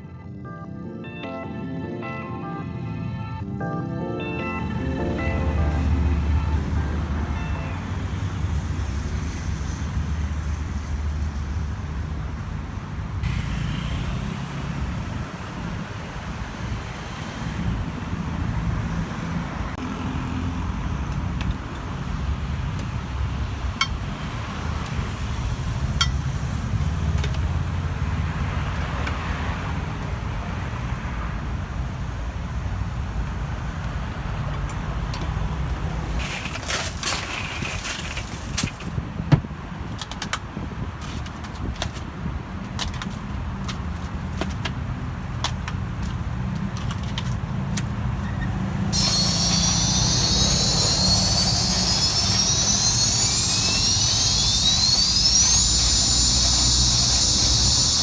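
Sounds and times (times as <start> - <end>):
road traffic rumble: 4.0 - 58.0.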